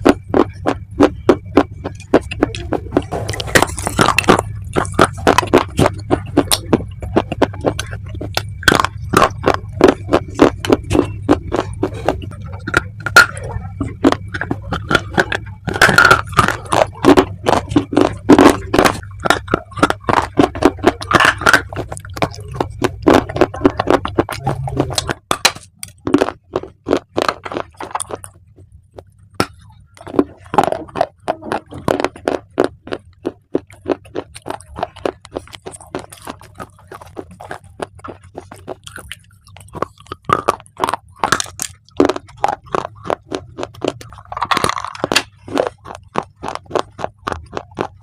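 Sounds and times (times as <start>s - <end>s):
brittle crunching of chewed clay: 0.0s - 48.0s
low hum: 0.0s - 48.0s.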